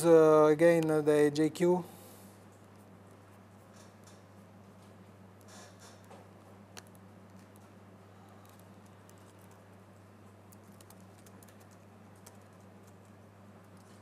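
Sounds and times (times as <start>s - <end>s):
faint keyboard typing: 2.5s - 14.0s.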